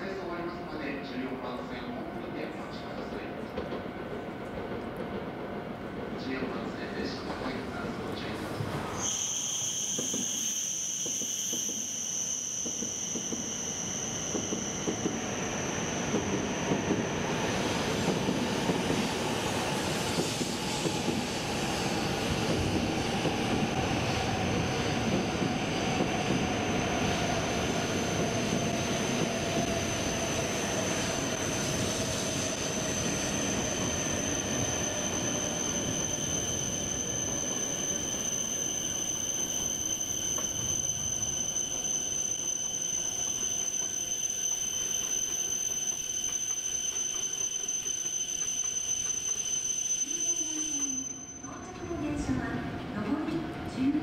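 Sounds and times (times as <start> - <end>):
train wheels rumbling on rail: 2.9 - 50.1
train braking whine: 8.2 - 52.6.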